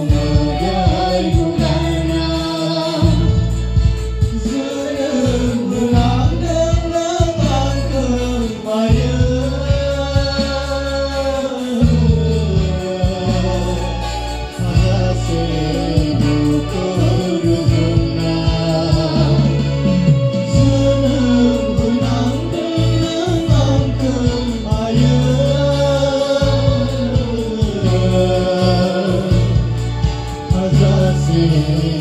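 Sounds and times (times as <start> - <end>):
group of men and women singing: 0.0 - 32.0
programmed drum beat: 0.0 - 32.0
steady bass line: 0.0 - 32.0.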